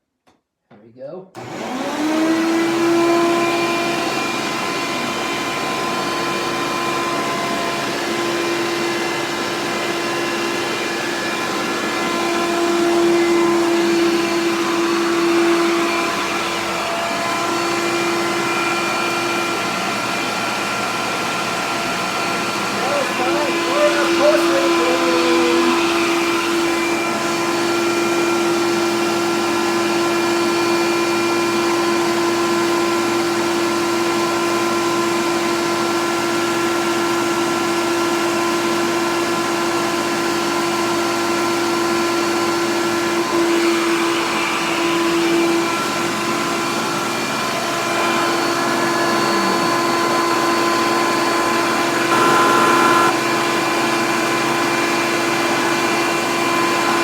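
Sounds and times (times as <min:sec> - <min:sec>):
vacuum cleaner whine: 0:01.4 - 0:57.0.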